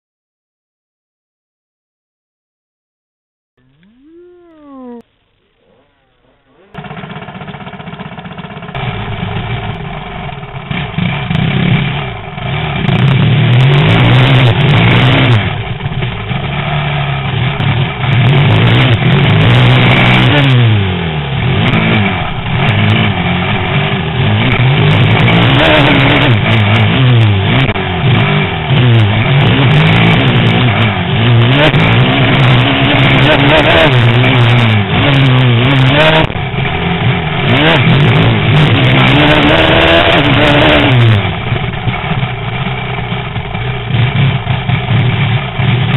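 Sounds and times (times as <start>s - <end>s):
motocross bike engine revving: 3.6s - 45.9s.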